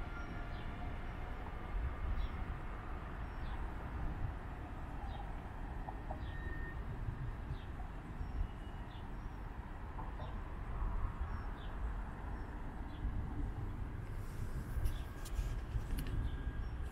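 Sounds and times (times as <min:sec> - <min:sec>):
wind rumble on microphone: 0:00.2 - 0:16.9.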